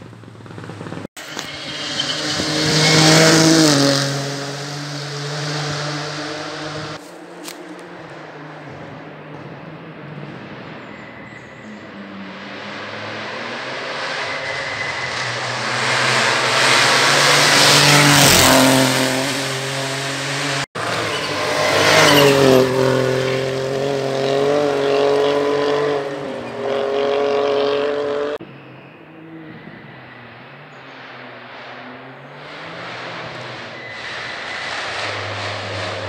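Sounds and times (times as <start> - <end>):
rally car passing at full throttle: 0.0 - 36.0
rally car engine revving high: 0.5 - 36.0.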